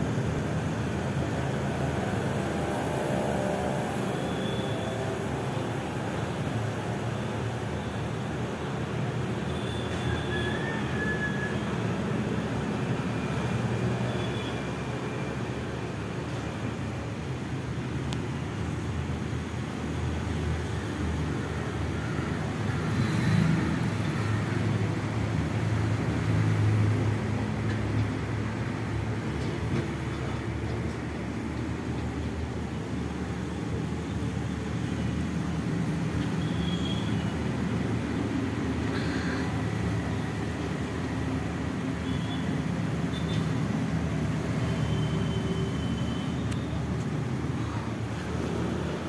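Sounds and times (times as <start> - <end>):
low rumble of traffic: 0.0 - 49.0.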